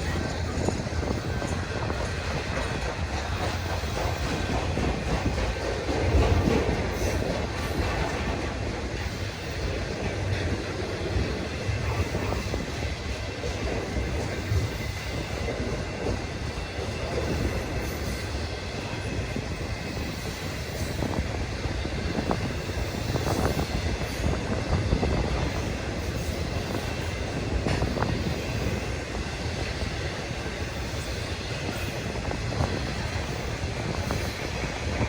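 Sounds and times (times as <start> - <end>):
freight train wheels rumbling on rails: 0.0 - 35.0
rail joint clicks: 0.0 - 35.0.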